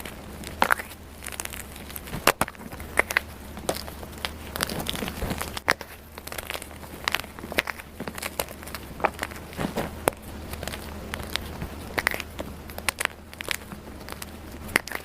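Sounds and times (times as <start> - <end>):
chalk crunching and crackling: 0.0 - 15.0.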